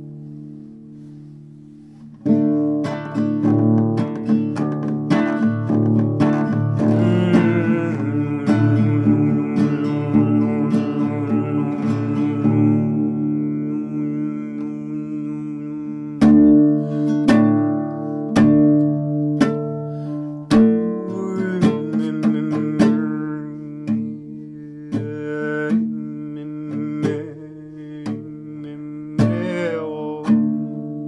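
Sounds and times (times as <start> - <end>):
plucked string instrument notes: 0.0 - 31.0.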